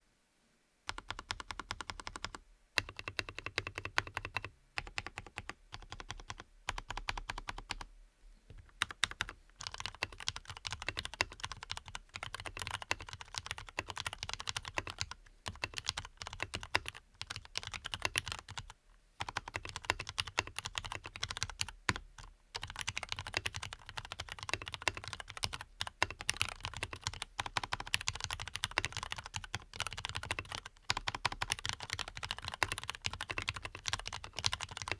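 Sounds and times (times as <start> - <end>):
mechanical keyboard typing: 0.9 - 7.9, 8.6 - 34.9.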